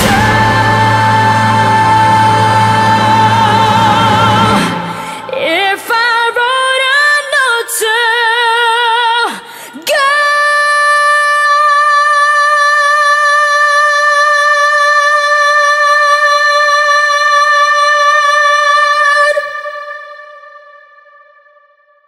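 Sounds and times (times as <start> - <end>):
woman singing with vibrato: 0.0 - 21.8.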